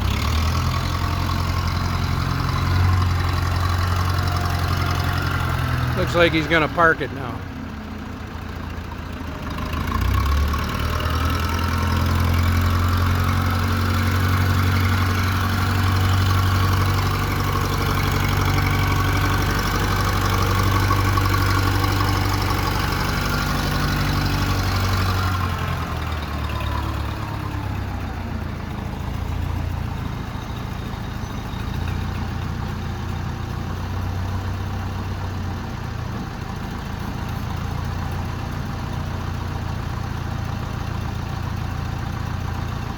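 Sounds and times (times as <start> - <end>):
backhoe engine revving and idling: 0.0 - 42.9.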